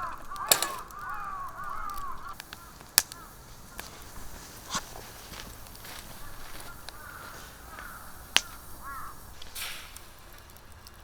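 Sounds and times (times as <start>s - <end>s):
bird harsh calls: 0.0s - 10.3s
sharp cracks: 0.0s - 11.0s.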